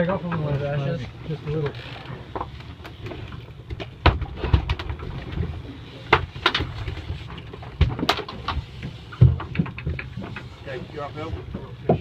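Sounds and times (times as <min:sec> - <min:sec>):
knocks and thumps on boat deck: 0:01.6 - 0:12.0.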